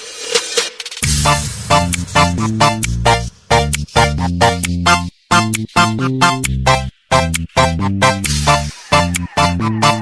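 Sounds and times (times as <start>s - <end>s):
dance music with heavy bass: 1.0s - 10.0s.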